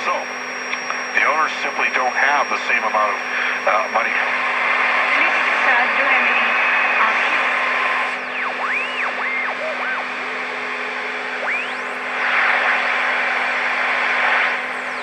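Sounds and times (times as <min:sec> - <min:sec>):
radio static hiss: 0:00.0 - 0:15.0
radio tuning whistles: 0:00.0 - 0:15.0
steady low hum: 0:00.0 - 0:15.0.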